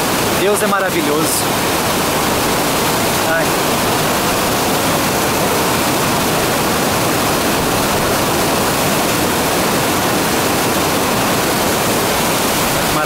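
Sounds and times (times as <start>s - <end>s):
waterfall roaring over rocks: 0.0s - 13.0s.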